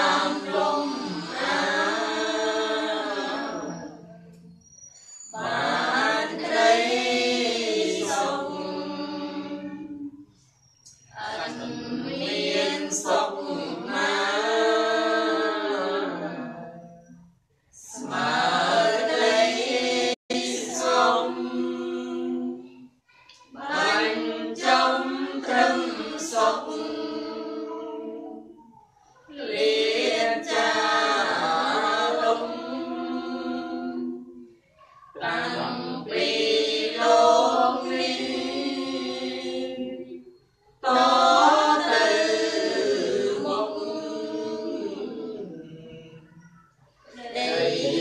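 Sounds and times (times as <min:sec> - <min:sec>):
group chanting melodically: 0:00.0 - 0:48.0.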